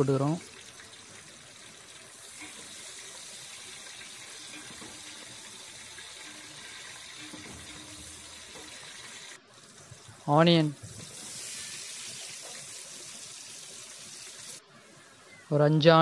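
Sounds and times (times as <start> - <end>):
spices sizzling in hot oil: 0.0 - 14.6.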